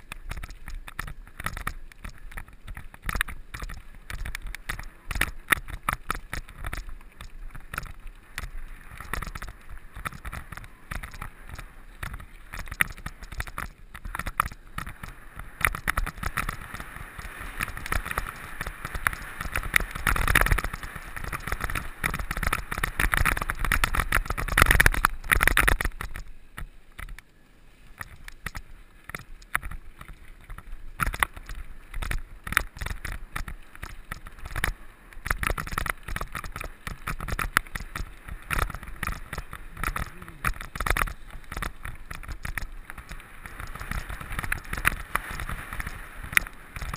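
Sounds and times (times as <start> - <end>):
bike rattling and clattering: 0.0 - 27.2, 28.0 - 46.9
wind noise: 0.0 - 27.2, 27.8 - 46.9.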